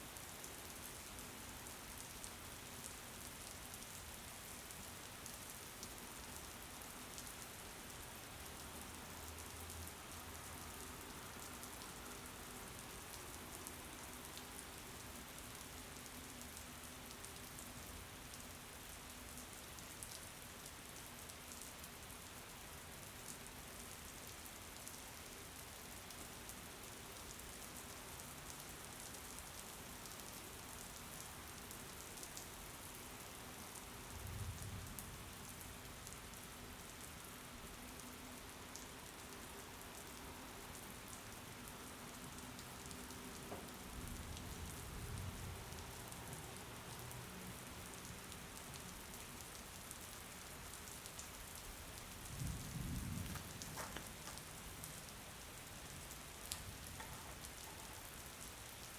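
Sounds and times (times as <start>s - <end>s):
rain pattering: 0.1s - 58.9s.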